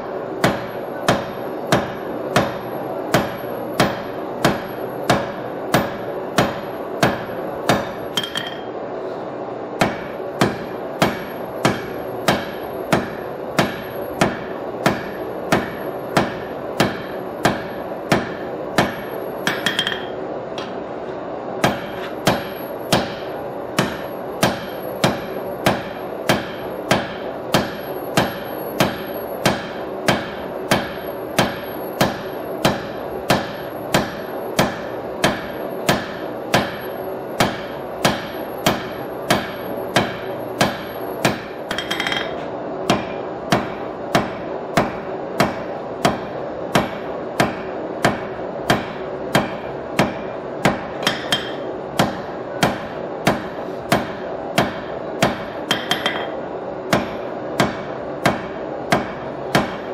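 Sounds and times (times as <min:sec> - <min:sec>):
hammer striking steel on anvil: 0:00.4 - 0:08.8, 0:09.8 - 0:20.8, 0:21.6 - 0:59.9.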